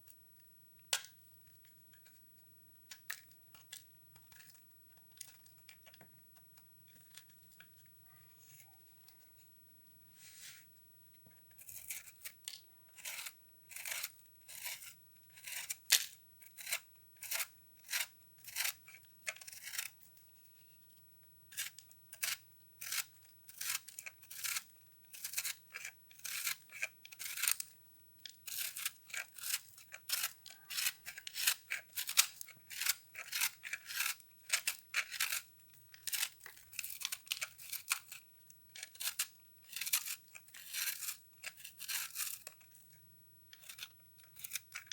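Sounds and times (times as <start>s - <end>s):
brittle soap crunching: 2.9s - 9.2s, 11.3s - 44.9s.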